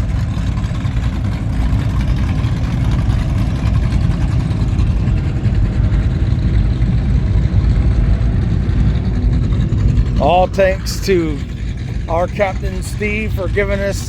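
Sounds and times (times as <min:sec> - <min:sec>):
powerboat engines idling: 0:00.0 - 0:14.0.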